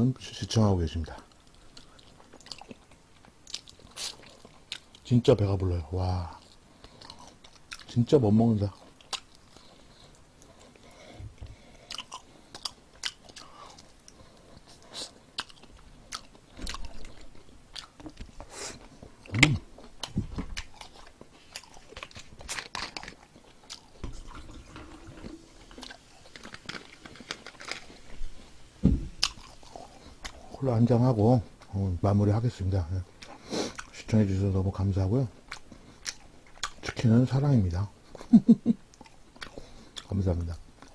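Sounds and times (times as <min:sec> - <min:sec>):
chewing crispy fried chicken: 0:01.0 - 0:24.0, 0:25.5 - 0:40.9.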